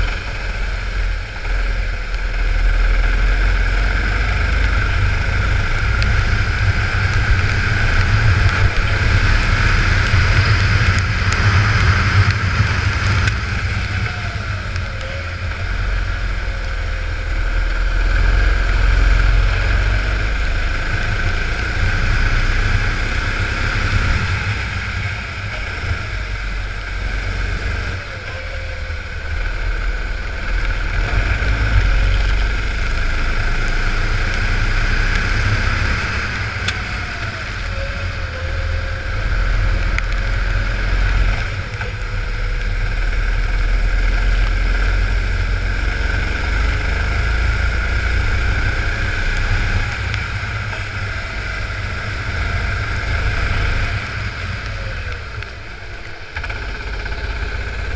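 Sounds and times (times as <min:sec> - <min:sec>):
go-kart engine racing: 0:00.0 - 0:57.9.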